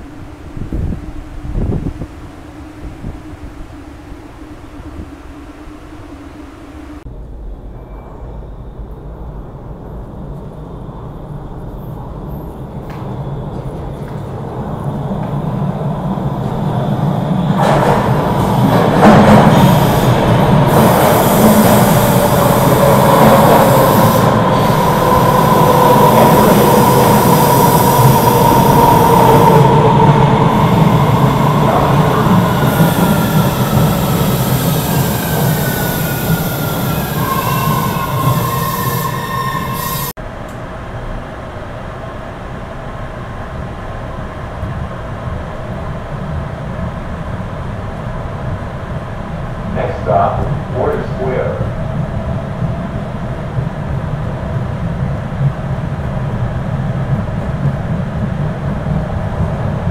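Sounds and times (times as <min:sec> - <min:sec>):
subway train wheels rumbling and squealing: 0:00.0 - 0:59.9
train interior rumble in tunnel: 0:00.0 - 0:59.9.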